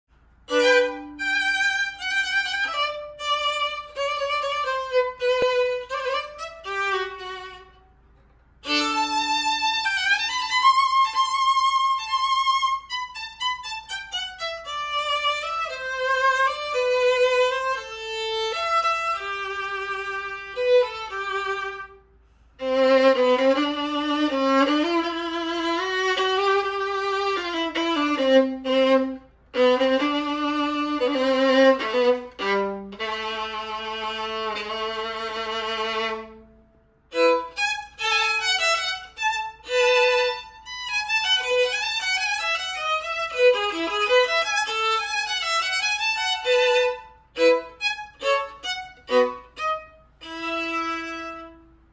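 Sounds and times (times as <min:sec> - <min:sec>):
solo violin bowed with vibrato: 0:00.5 - 0:08.0, 0:08.6 - 0:51.9.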